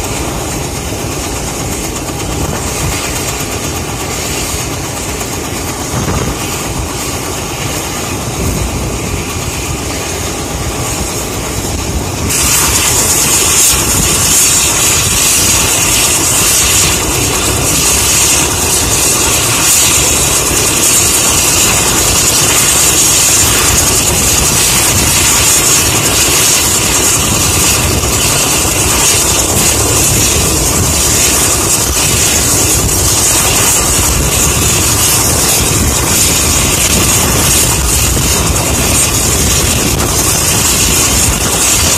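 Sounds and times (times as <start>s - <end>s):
helicopter engines and rotor chop: 0.0s - 41.9s
high turbine hiss: 0.0s - 41.9s.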